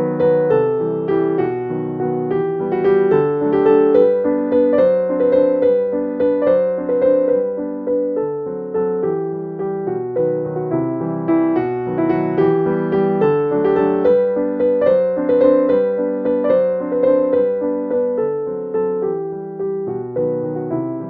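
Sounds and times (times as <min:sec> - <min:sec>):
piano melody: 0:00.0 - 0:21.0.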